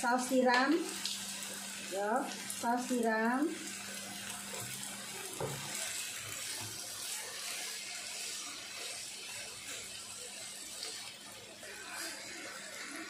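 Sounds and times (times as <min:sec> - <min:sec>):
noodles sizzling in a frying pan: 0:00.0 - 0:13.0.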